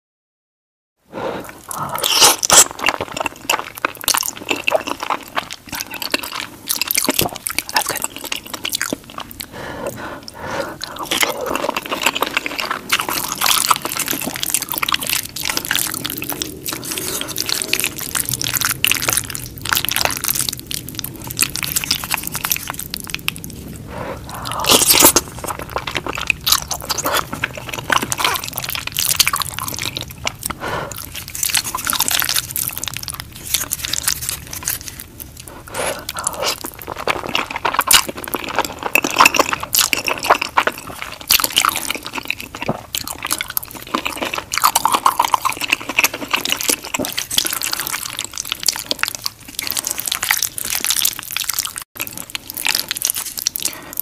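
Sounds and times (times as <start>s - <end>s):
wet chewing: 1.2s - 54.0s.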